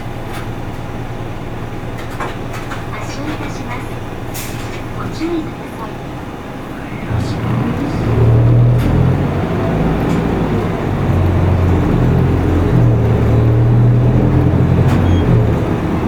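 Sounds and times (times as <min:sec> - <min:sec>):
bus diesel engine: 0:00.0 - 0:16.0
road noise: 0:00.0 - 0:16.0.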